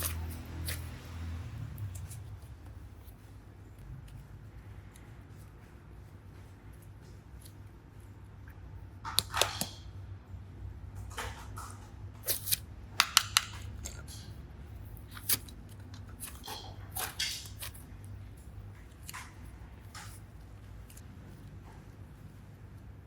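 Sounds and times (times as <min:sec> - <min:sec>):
squishy slime sounds: 0:00.0 - 0:09.9, 0:11.0 - 0:23.0.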